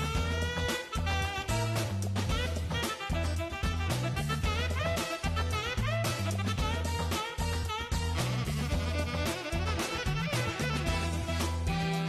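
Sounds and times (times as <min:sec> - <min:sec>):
music with deep bass line: 0:00.0 - 0:12.0.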